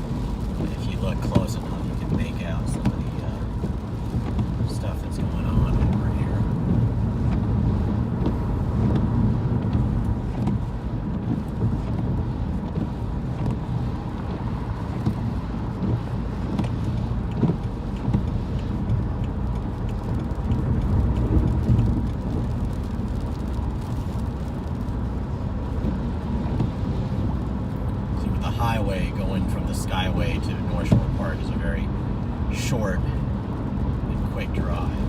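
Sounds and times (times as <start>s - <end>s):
car road and engine rumble: 0.0s - 35.0s
gusty wind hitting car: 0.0s - 35.0s.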